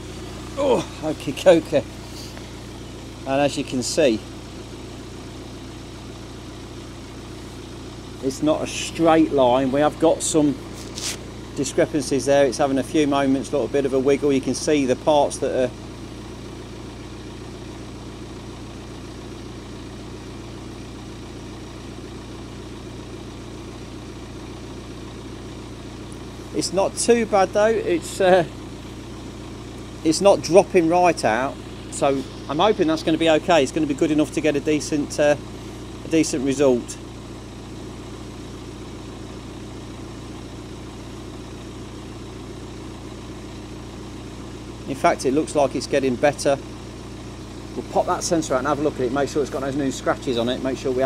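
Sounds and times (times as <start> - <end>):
car engine humming: 0.0 - 51.0.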